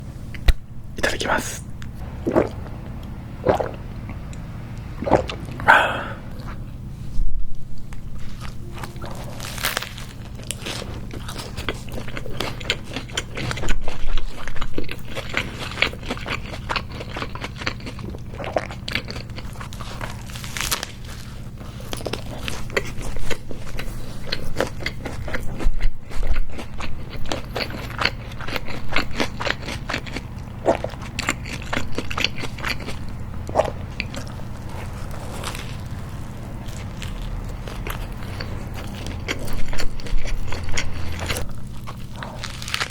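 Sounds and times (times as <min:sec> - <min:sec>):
crunchy biting and chewing: 0:00.2 - 0:06.7, 0:07.8 - 0:42.9.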